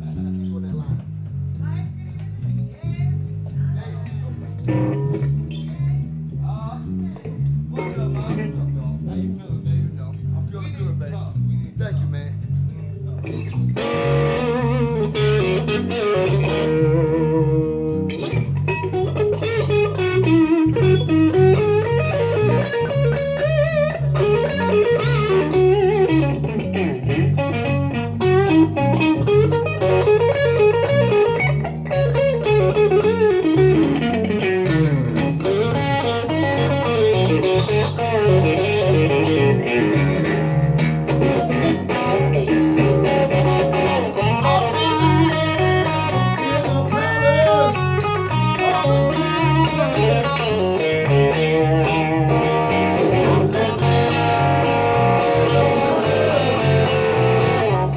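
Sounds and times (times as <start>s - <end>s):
electric bass riff: 0.0s - 57.9s
electric guitar lead with bent notes: 0.0s - 57.9s.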